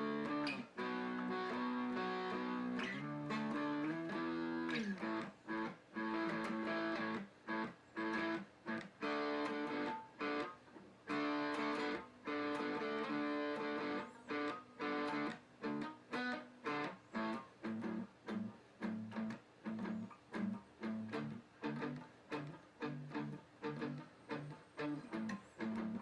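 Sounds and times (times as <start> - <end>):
guitar strumming: 0.0 - 26.0.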